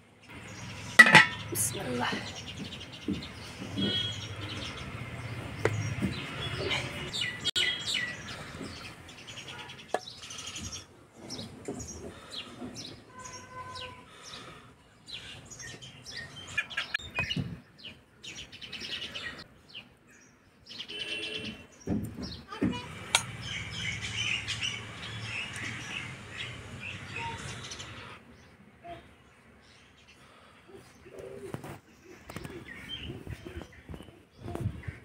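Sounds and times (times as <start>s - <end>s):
small birds chirping: 0.1s - 35.0s.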